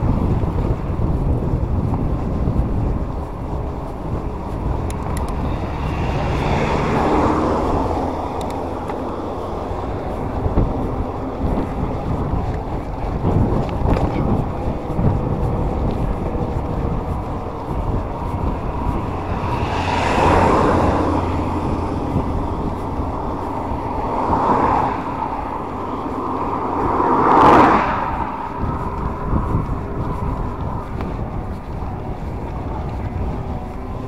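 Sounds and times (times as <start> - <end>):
low rumble: 0.0 - 34.0
road vehicles passing: 0.0 - 34.0
wind on microphone: 0.0 - 34.0.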